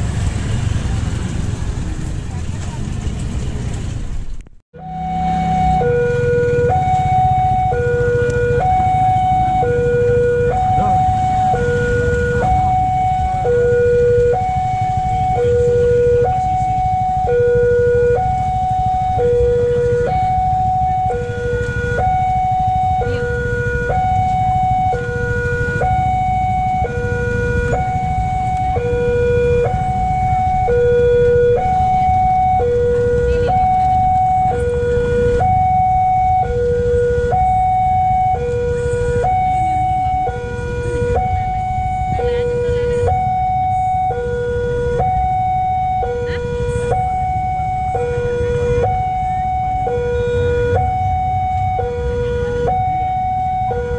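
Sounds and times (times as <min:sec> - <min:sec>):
level-crossing two-tone alarm: 0:04.8 - 0:53.9.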